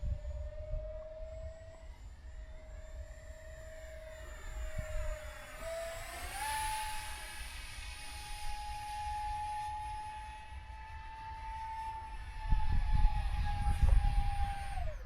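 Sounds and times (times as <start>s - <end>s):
electric ducted fans whining: 0.0s - 15.0s.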